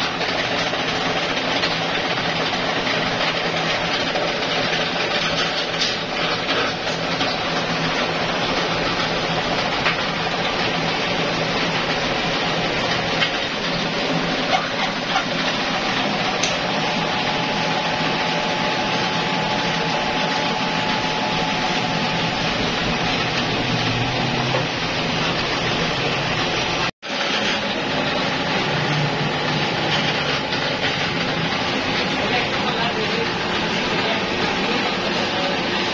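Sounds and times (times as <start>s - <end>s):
electric fan running: 0.0s - 35.9s
injection-molding machine running: 0.0s - 35.9s.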